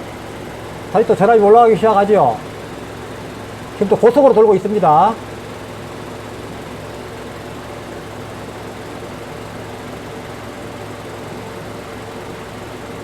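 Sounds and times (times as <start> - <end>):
car engine idling: 0.0 - 13.0
radiator fan running: 0.0 - 13.0.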